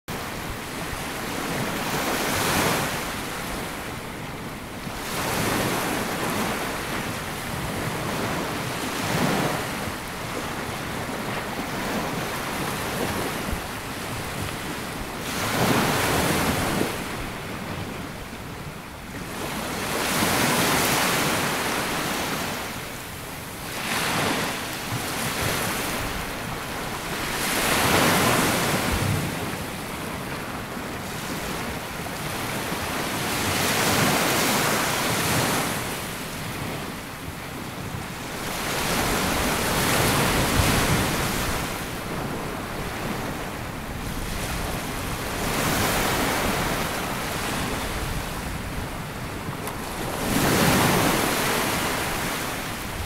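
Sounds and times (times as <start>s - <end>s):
sea waves breaking on beach: 0.1s - 53.0s.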